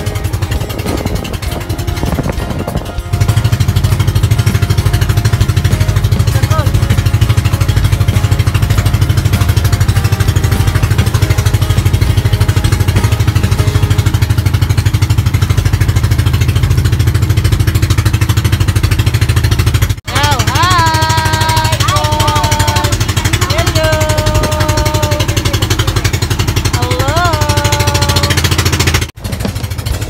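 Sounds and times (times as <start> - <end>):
motorboat engine chugging: 0.0 - 30.0.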